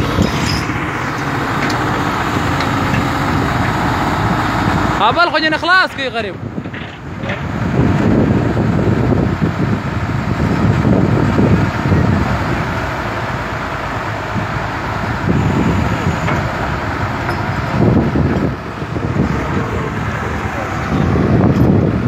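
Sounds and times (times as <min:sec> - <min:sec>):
excavator diesel engines rumbling: 0:00.0 - 0:22.0.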